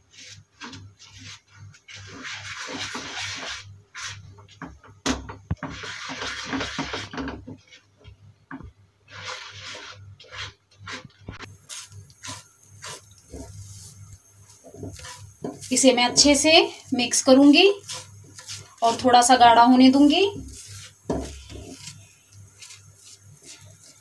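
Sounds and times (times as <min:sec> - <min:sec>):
spatula scraping a pan: 0:00.0 - 0:04.7, 0:05.5 - 0:07.9, 0:09.1 - 0:24.0.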